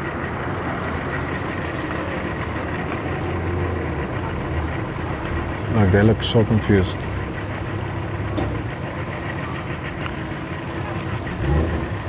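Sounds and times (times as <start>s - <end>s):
engines idling: 0.0s - 12.0s.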